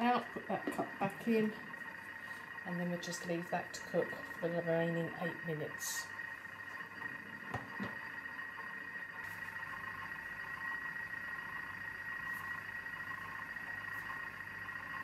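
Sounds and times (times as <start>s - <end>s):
food processor high whine: 0.0s - 15.0s.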